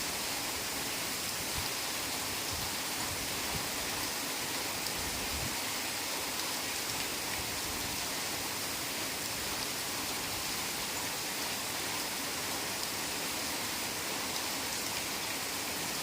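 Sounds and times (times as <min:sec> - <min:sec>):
heavy rain on leaves: 0:00.0 - 0:16.0.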